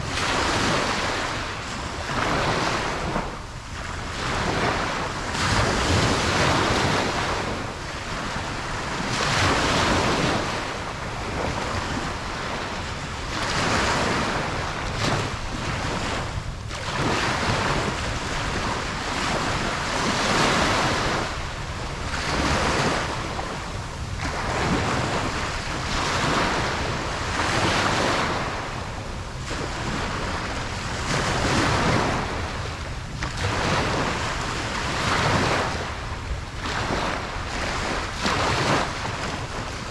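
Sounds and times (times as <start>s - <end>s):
ocean waves breaking on a beach: 0.0s - 39.9s
wind: 0.0s - 39.9s.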